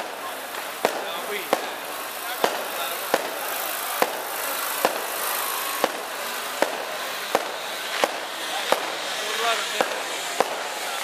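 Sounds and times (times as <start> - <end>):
crowd murmur: 0.0 - 11.0
fireworks bangs: 0.0 - 11.0.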